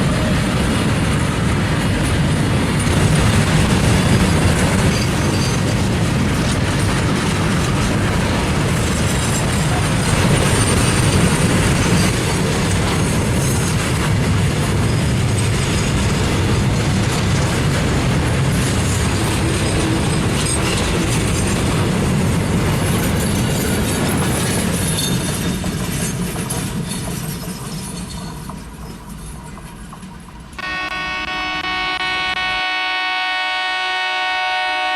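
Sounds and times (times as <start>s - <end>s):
wheels clattering over rails: 0.0s - 30.6s
freight train rumbling past: 0.0s - 34.9s.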